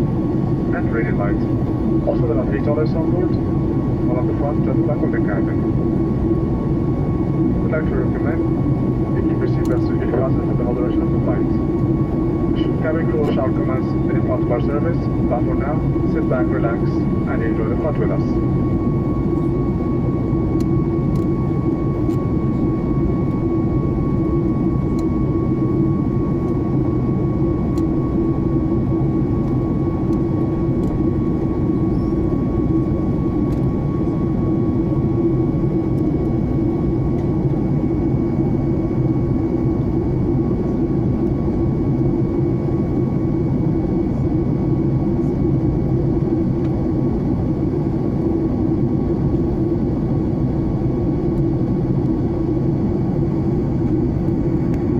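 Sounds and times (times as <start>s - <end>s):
faint steady whine: 0.0s - 54.9s
jet engine drone and rushing air: 0.0s - 54.9s.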